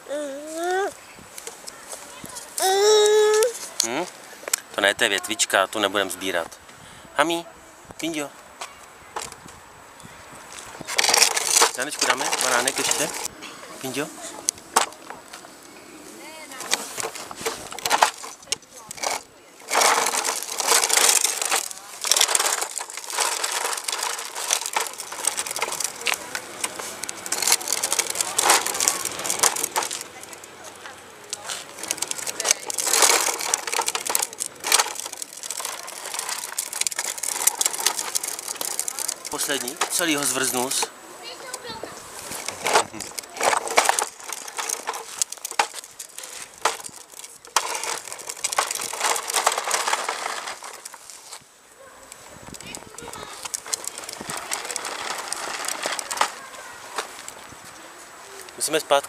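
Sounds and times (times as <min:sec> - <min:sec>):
plastic wheels rolling over paving: 0:00.1 - 0:06.5, 0:09.1 - 0:09.6, 0:10.3 - 0:59.0.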